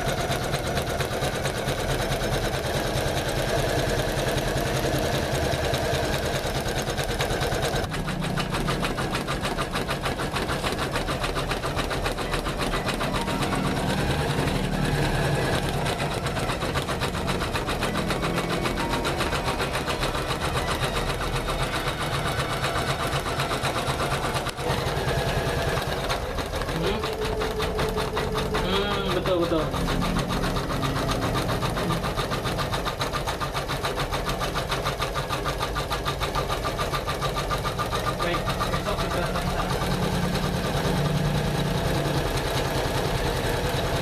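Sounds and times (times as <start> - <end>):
embroidery machine stitching: 0.0 - 44.0.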